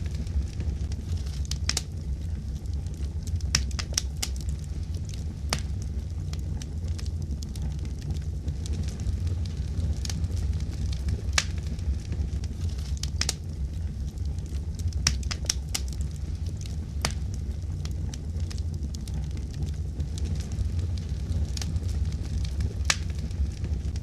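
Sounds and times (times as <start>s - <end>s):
fire crackles and pops: 0.0s - 24.0s
wood fire rumbling: 0.0s - 24.0s.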